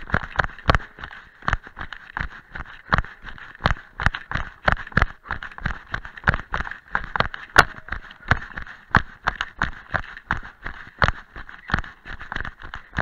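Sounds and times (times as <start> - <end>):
running footsteps on dirt path: 0.0 - 13.0.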